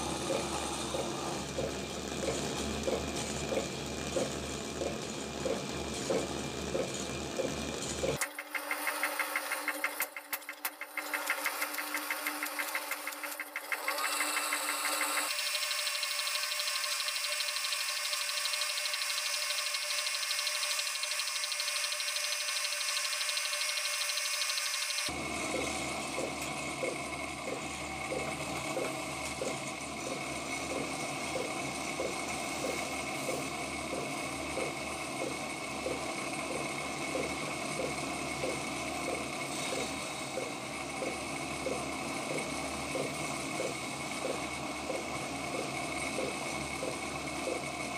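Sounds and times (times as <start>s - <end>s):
rhythmic rubbing on spinning wood: 0.0s - 47.9s
turning tool cutting wood: 0.0s - 47.9s
wood lathe humming: 0.0s - 47.9s.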